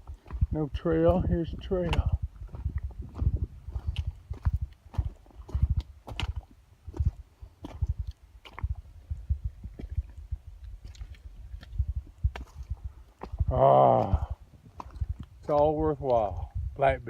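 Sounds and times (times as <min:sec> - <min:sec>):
footsteps on a trail: 0:00.0 - 0:16.9.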